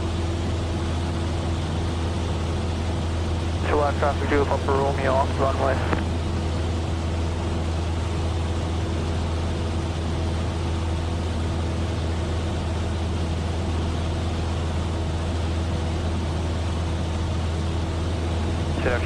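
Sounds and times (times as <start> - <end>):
airplane engine and propeller droning: 0.0 - 19.0.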